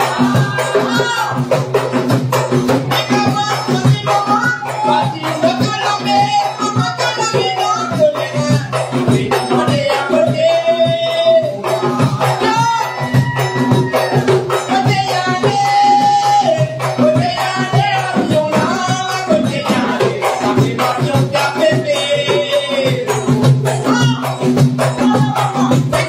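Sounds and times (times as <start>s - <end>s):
man singing: 0.0s - 1.6s, 2.7s - 26.0s
frame drums beating: 0.0s - 26.0s.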